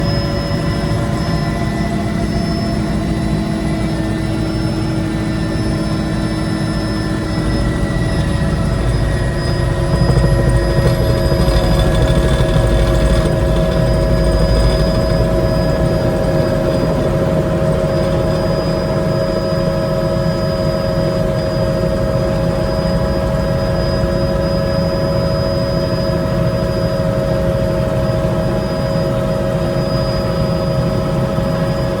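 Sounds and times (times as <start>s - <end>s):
helicopter landing: 0.0s - 32.0s.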